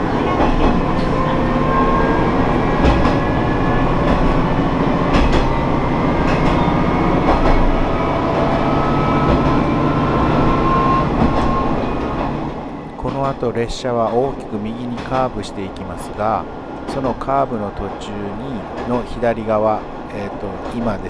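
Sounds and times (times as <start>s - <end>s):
rail joint clicks: 0.0s - 21.0s
train wheels rumbling on rails: 0.0s - 21.0s.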